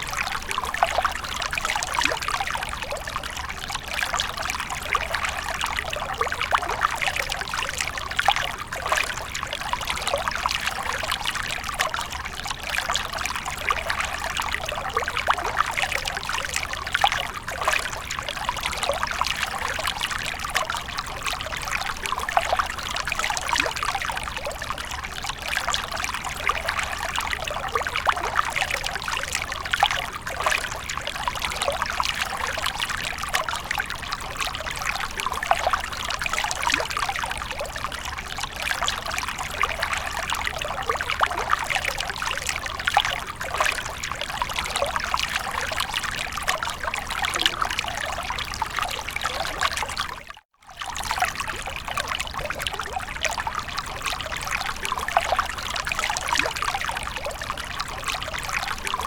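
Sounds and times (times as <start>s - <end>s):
fountain water trickling: 0.0s - 59.0s.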